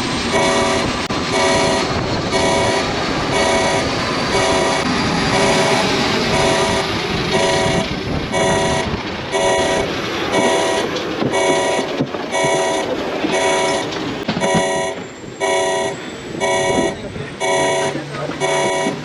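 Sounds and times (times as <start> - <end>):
steady background rush: 0.0 - 19.0
electronic alarm horn beeping: 0.3 - 19.0.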